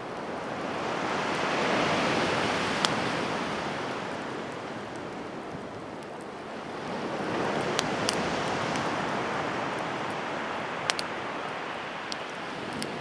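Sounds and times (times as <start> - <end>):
campfire flame hissing: 0.0 - 13.0
fire crackling pops: 2.2 - 13.0.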